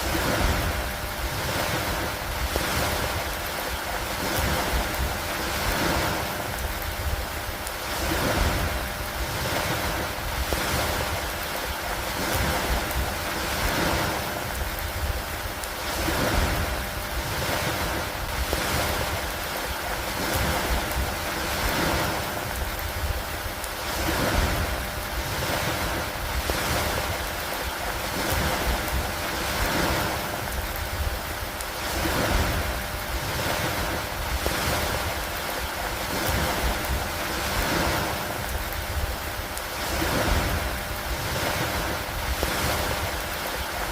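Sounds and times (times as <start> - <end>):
lake water: 0.0 - 43.9
rain rushing: 0.0 - 43.9
wind: 0.0 - 43.9.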